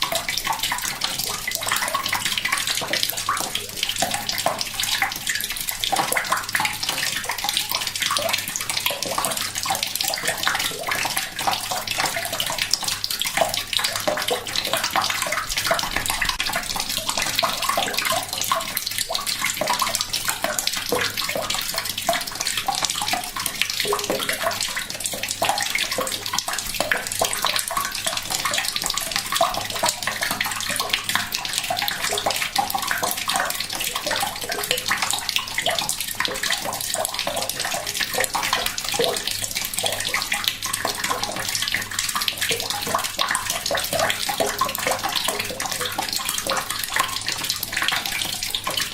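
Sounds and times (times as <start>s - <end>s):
tap water trickling into bucket: 0.0s - 48.9s.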